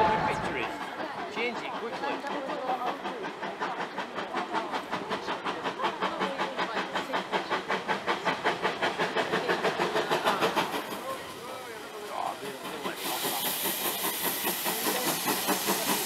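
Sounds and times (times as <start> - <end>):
steam locomotive exhaust beats: 0.0 - 16.0.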